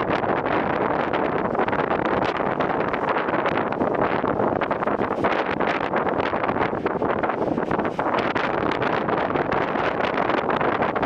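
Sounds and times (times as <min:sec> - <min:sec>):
steady rush of noise: 0:00.0 - 0:11.0
strong wind buffeting microphone: 0:00.0 - 0:11.0.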